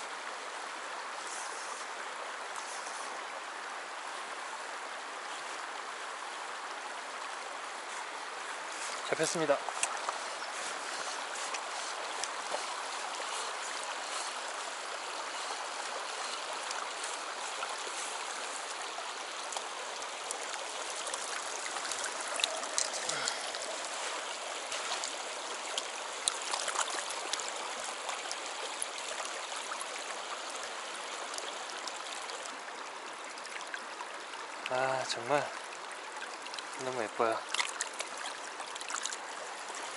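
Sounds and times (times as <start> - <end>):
stream rushing over cobbles: 0.0 - 39.9.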